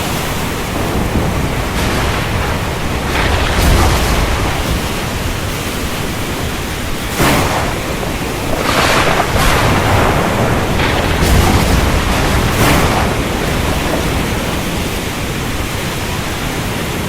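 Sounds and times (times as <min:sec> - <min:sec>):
heavy rain: 0:00.0 - 0:17.0
low rumble: 0:00.8 - 0:16.2.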